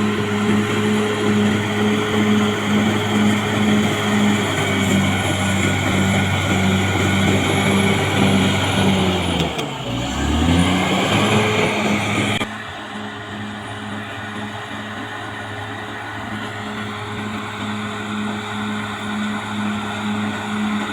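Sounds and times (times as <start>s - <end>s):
bulldozer diesel engine working: 0.0s - 20.9s.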